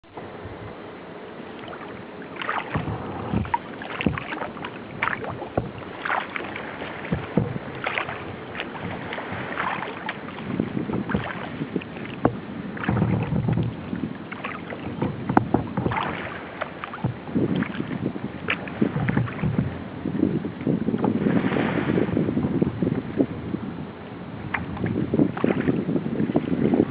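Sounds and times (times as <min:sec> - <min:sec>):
wind rumble on microphone: 0:00.0 - 0:26.9
paddle splashes and drips: 0:01.4 - 0:22.0, 0:24.4 - 0:26.9.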